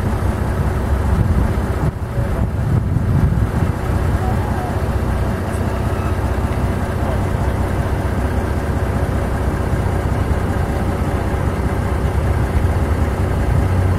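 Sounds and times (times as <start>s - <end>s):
loud steady low rumble: 0.0s - 13.9s.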